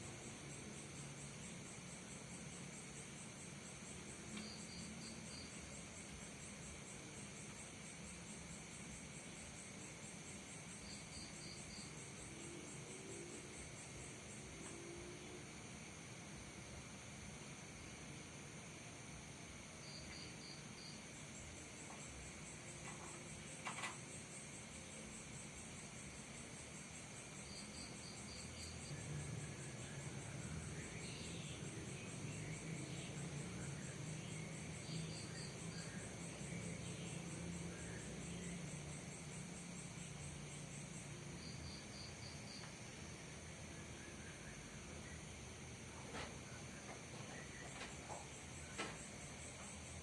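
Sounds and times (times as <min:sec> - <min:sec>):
cricket chirps: 0:00.0 - 0:50.0
insects trilling: 0:00.0 - 0:50.0.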